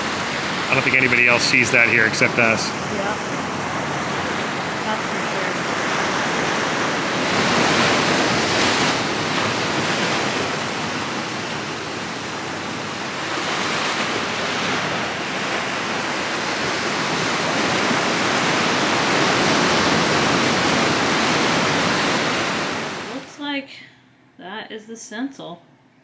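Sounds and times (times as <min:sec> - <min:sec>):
ocean surf on rocks: 0:00.0 - 0:23.4.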